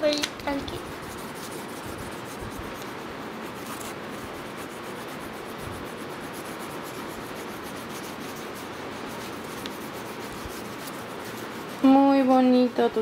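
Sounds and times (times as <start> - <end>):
crayon rubbing on paper: 0.4 - 12.8.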